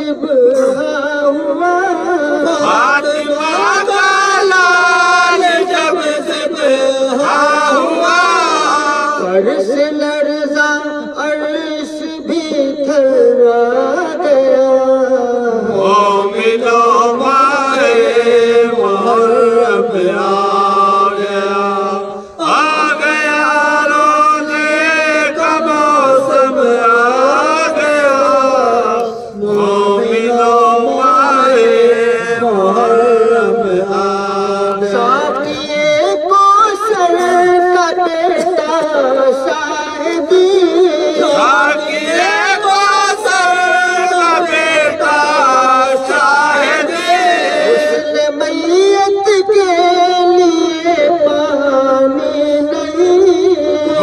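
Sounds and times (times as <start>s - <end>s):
men chanting a lament: 0.0s - 54.0s.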